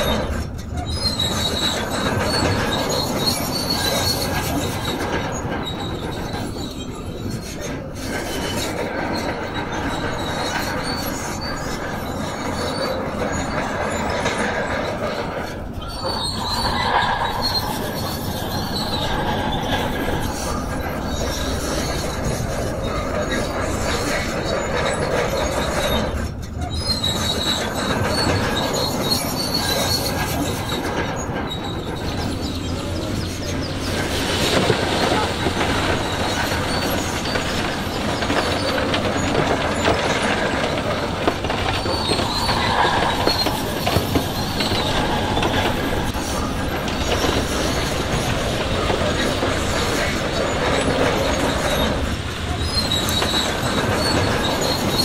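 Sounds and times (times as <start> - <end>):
bulldozer diesel engine under load: 0.0 - 55.0
steel tracks squealing and clanking: 0.0 - 55.0.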